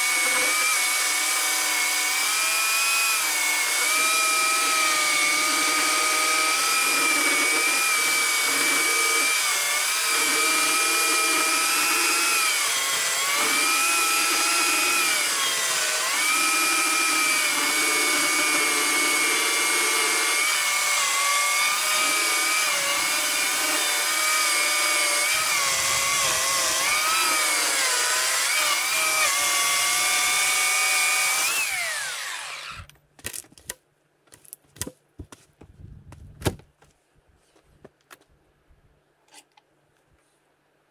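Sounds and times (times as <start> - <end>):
electric chainsaw cutting log: 0.0 - 32.9.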